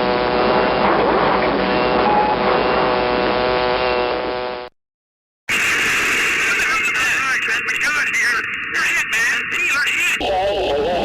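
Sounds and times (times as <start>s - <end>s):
cockpit droning hum: 0.0s - 4.7s, 5.5s - 11.0s.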